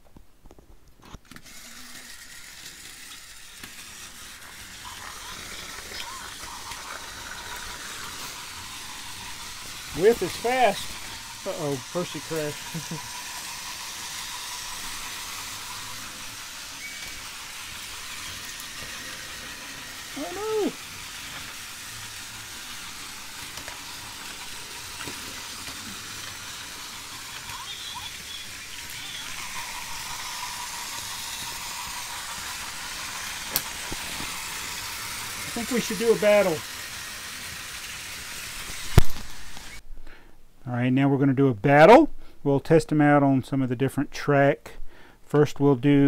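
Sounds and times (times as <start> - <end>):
toy train motors whirring: 1.0 - 40.2.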